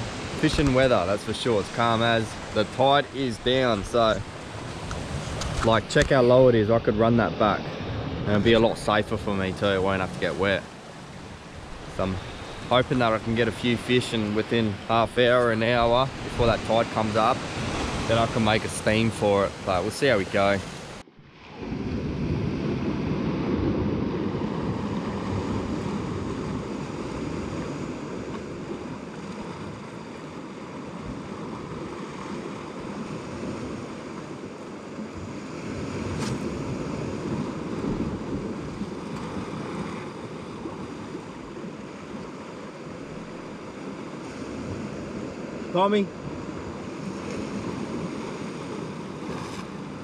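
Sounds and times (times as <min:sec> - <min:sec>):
sea waves washing: 0:00.0 - 0:50.0
wind buffeting microphone: 0:00.0 - 0:50.0.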